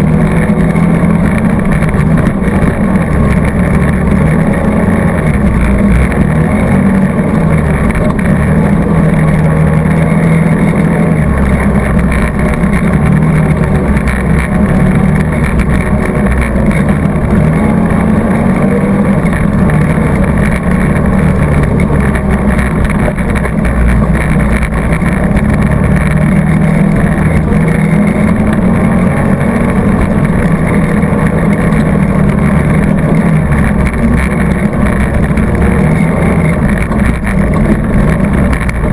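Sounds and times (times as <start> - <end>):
atv engine under throttle: 0.0 - 38.9.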